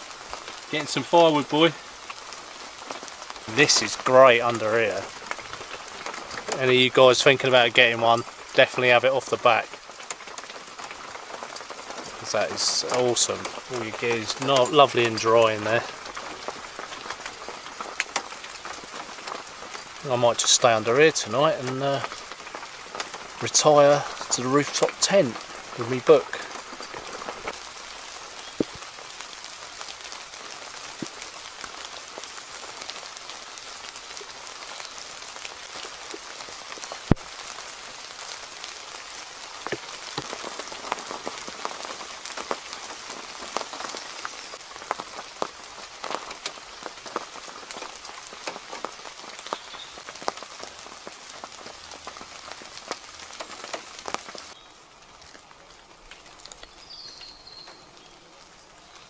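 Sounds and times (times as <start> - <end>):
rain falling on leaves: 0.0 - 59.0
raindrops ticking: 0.0 - 59.0.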